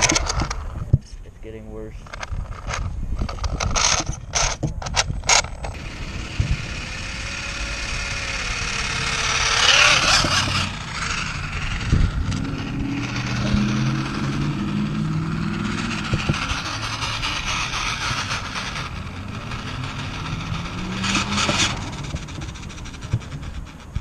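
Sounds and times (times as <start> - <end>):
rc car drive noise: 0.0 - 0.9, 1.9 - 24.0
gears clicking and crunching: 2.0 - 24.0.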